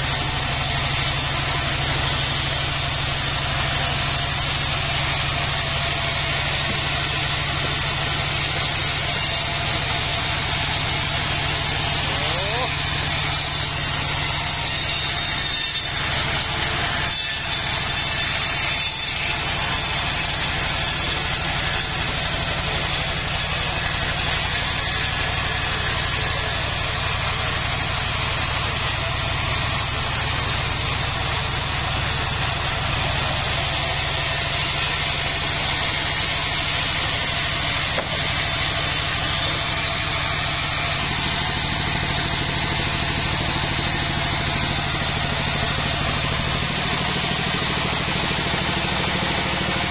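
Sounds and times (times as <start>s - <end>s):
band sawmill cutting log: 0.0s - 49.9s.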